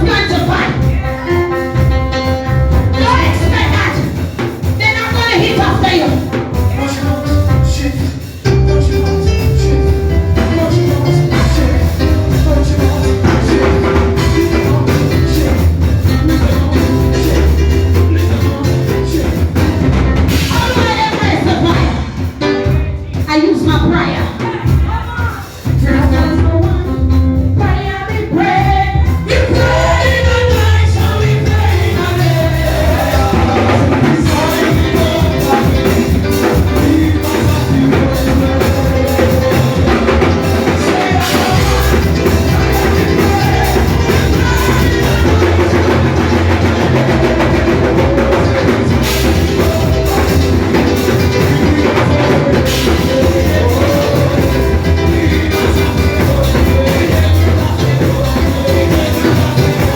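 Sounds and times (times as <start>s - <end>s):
people singing: 0.0s - 23.2s, 23.9s - 59.9s
band playing: 0.0s - 59.9s
drum kit steady beat: 0.0s - 59.9s.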